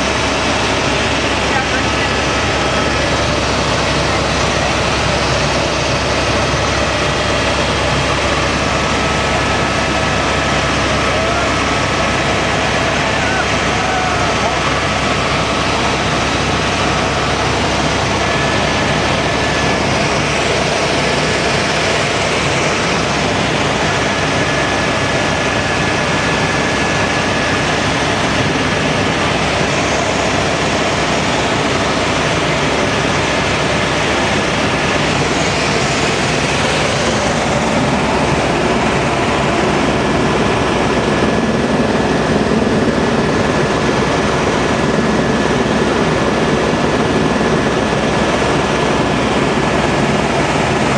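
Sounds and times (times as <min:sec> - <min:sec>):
helicopter rotor and engine: 0:00.0 - 0:50.9
high whine: 0:00.0 - 0:50.9.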